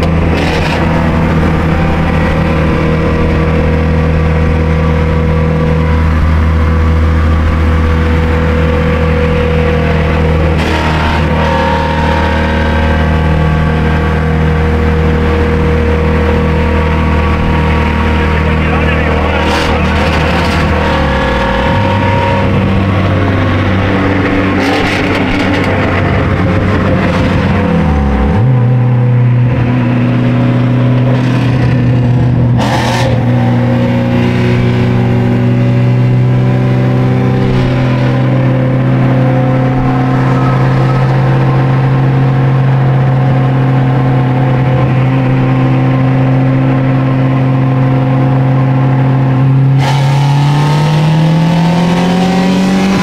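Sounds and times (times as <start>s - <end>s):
turbocharged car engine running: 0.0s - 53.0s.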